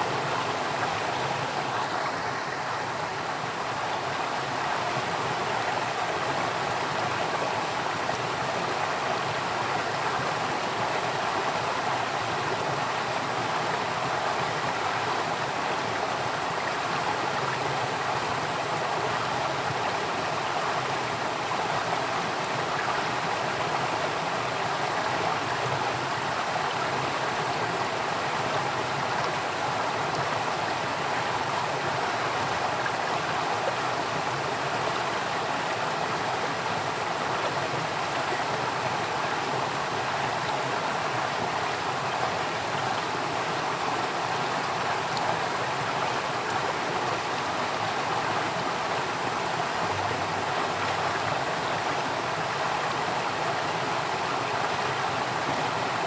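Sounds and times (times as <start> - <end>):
stream water rushing and babbling: 0.0 - 56.0.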